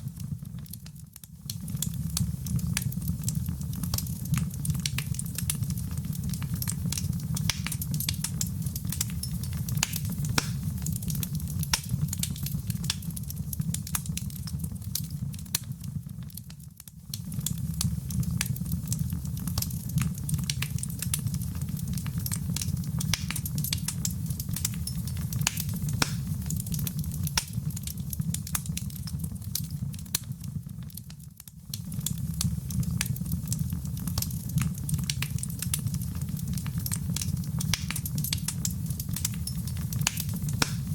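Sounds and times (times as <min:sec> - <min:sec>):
wood fire crackling in fireplace: 0:00.0 - 0:40.9.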